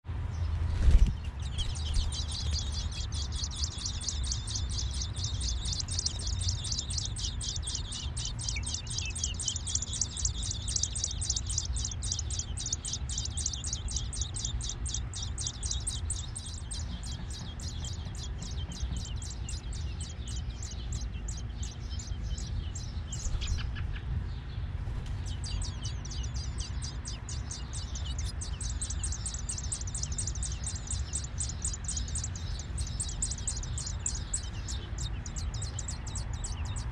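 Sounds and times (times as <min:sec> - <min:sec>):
low rumble: 0:00.1 - 0:36.9
nestlings chirping: 0:00.3 - 0:36.9.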